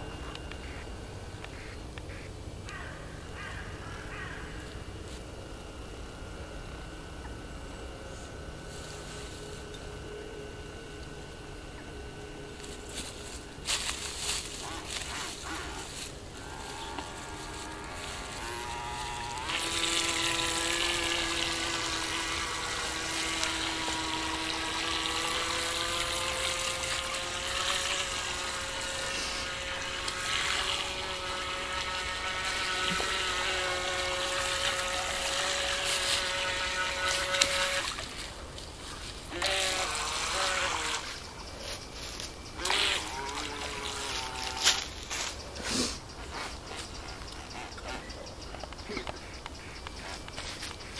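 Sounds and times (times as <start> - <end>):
small electric motor whining: 0.0 - 50.9.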